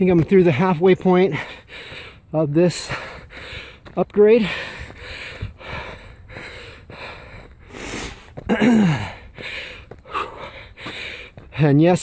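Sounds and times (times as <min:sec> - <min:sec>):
man panting hard: 0:00.4 - 0:11.7.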